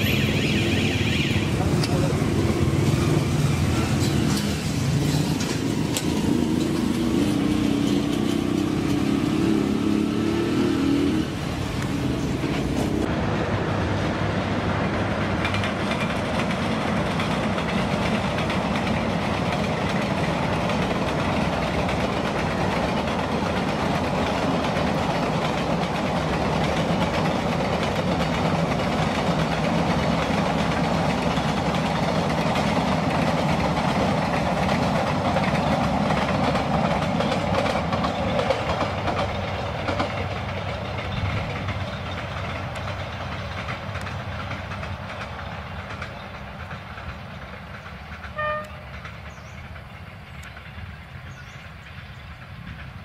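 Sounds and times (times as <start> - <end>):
locomotive engine running: 0.0 - 53.0
train wheels rolling on rails: 0.0 - 53.0.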